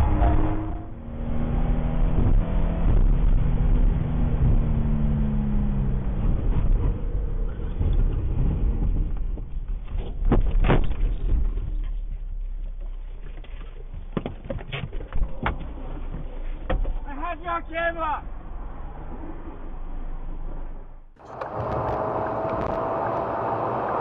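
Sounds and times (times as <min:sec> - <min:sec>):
car engine: 0:00.0 - 0:24.0
road noise: 0:00.0 - 0:24.0.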